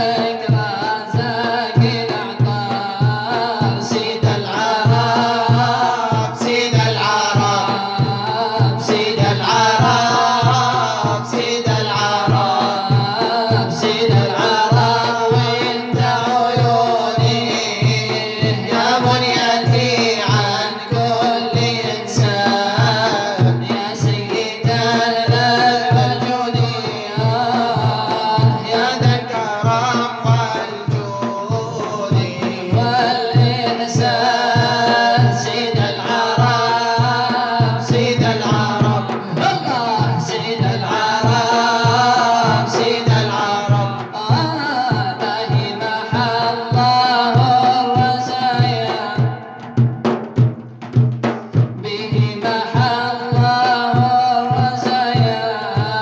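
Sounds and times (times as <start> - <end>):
low percussion beat: 0.0 - 56.0
men singing devotional song: 0.0 - 56.0.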